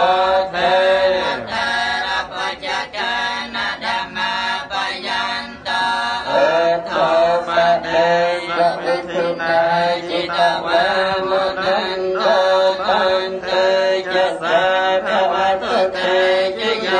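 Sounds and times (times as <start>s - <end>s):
group of voices chanting: 0.0s - 16.9s.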